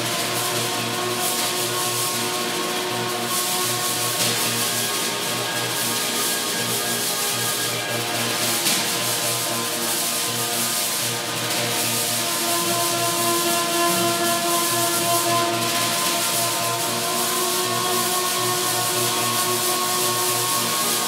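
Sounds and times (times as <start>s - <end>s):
electric guitar drone notes: 0.0s - 21.0s
snare drum head scraped: 0.0s - 21.0s.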